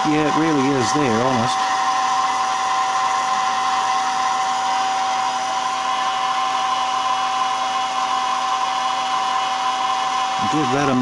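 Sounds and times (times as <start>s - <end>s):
blower whine: 0.0s - 11.0s.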